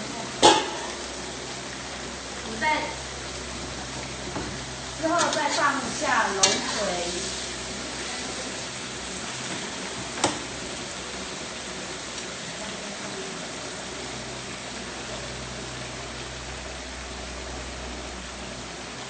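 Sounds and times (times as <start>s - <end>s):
pot hissing on stove: 0.0s - 19.0s.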